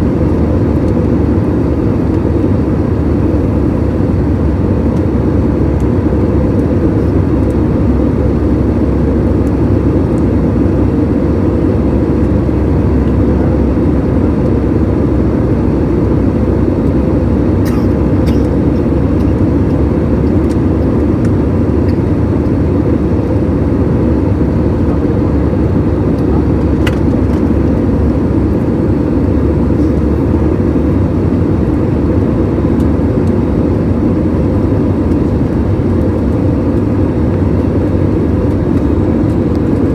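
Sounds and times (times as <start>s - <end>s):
aeroplane cabin engine drone: 0.0s - 39.9s.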